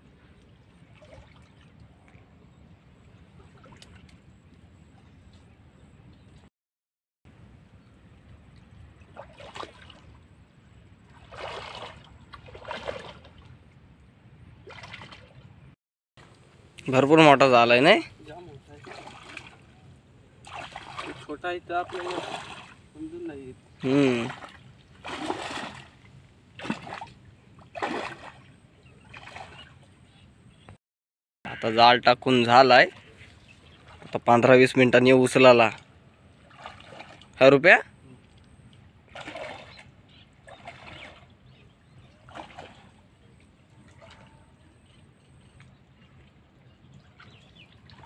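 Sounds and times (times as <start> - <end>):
creek water sloshing and dripping: 0.0 - 6.4, 7.3 - 30.7, 31.5 - 48.0
water splashes: 0.4 - 2.4, 3.0 - 5.0, 8.3 - 30.0, 32.3 - 48.0.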